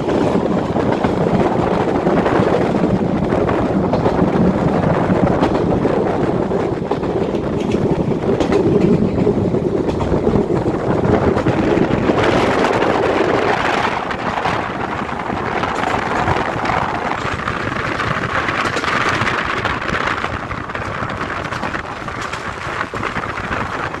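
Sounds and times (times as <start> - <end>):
train wheels on rails: 0.0 - 24.0
wind buffeting microphone: 0.0 - 24.0.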